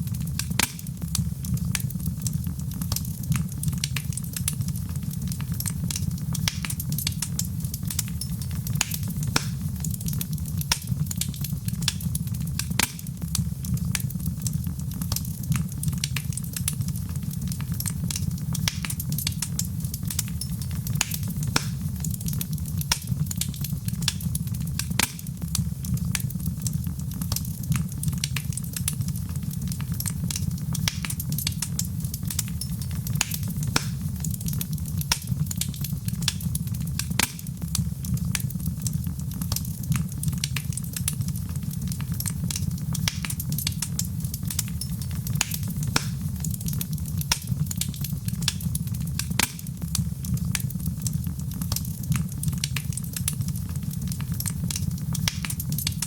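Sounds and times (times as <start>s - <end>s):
flames rumbling: 0.0s - 56.0s
wood fire popping and snapping: 0.0s - 56.0s.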